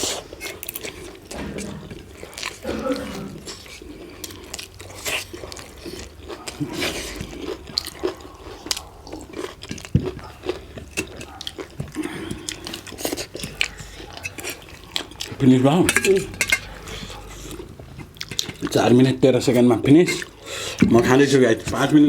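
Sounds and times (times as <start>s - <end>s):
people chewing and smacking: 0.0s - 22.0s.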